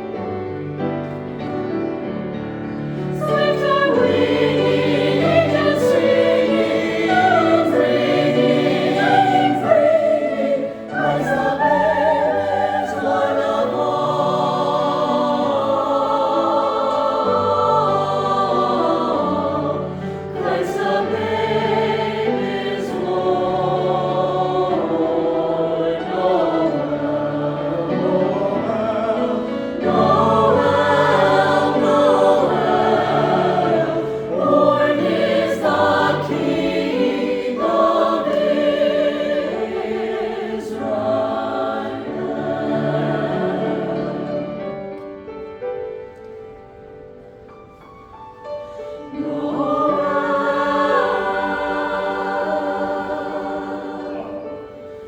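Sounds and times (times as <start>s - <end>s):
choir singing: 0.0s - 45.2s, 48.6s - 55.0s.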